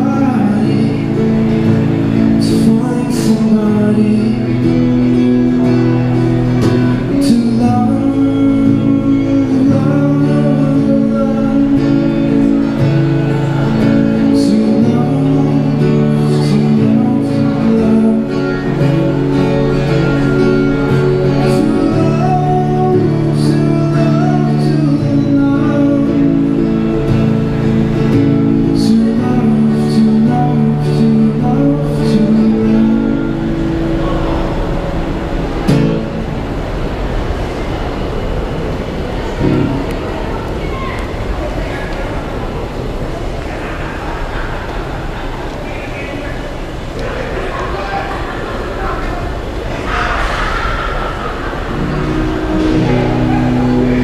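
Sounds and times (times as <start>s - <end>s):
amplified acoustic guitar strumming: 0.0s - 41.3s, 49.4s - 54.0s.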